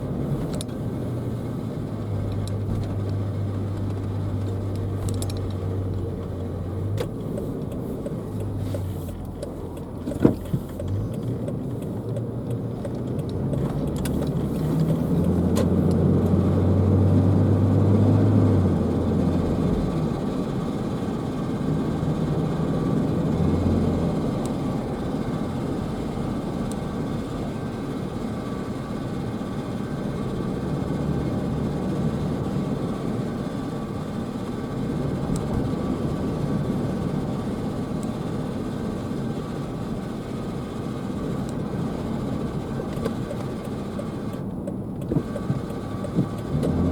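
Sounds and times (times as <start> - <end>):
car road noise: 0.0 - 46.9.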